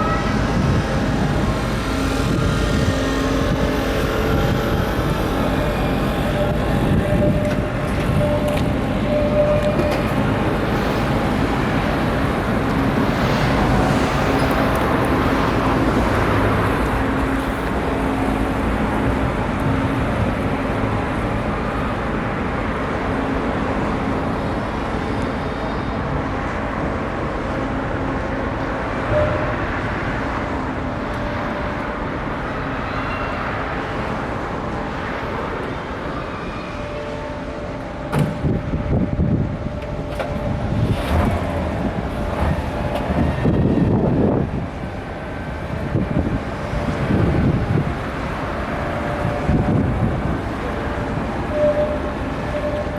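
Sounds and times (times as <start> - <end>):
engine and machinery rumble: 0.0 - 52.9.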